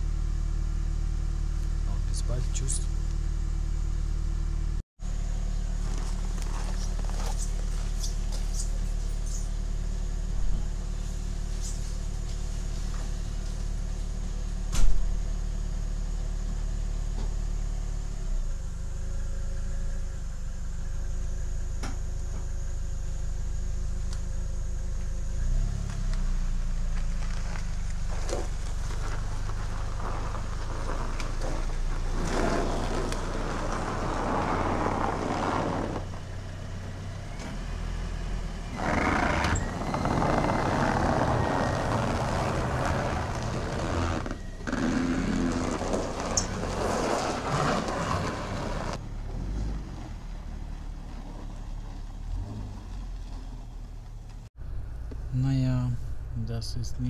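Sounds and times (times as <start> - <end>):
car engine humming: 0.0 - 57.0.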